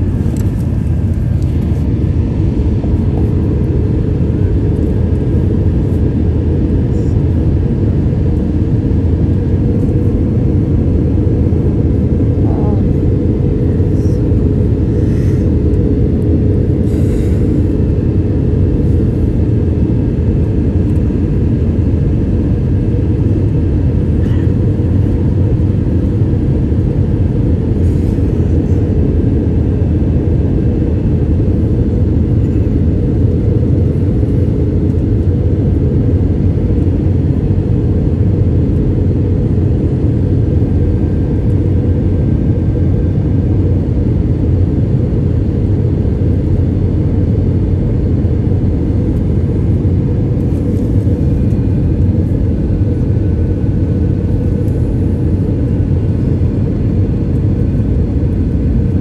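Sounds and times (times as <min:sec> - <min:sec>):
airliner cabin engine rumble: 0:00.0 - 0:59.0
faint hum: 0:00.0 - 0:59.0.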